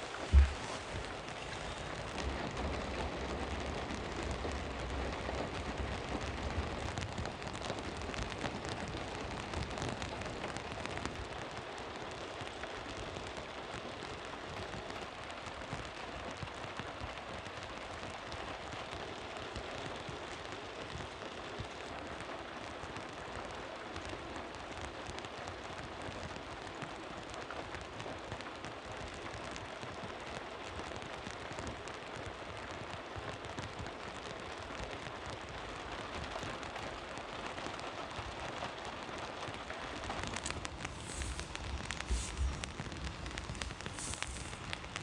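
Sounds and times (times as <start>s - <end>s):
raindrops ticking: 0.0s - 45.0s
steady rain falling: 0.0s - 45.0s.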